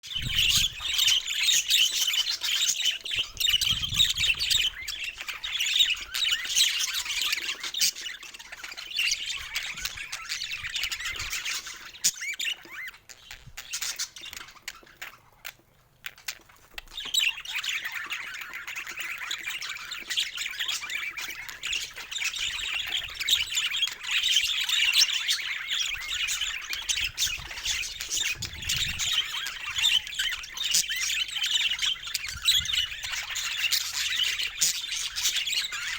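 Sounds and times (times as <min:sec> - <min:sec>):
budgerigars chirping and chattering: 0:00.1 - 0:35.9.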